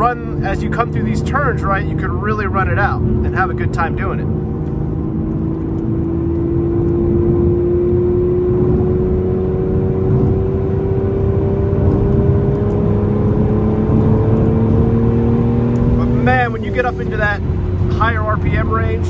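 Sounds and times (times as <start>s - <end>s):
car engine accelerating: 0.0s - 19.0s
low road rumble: 0.0s - 19.0s.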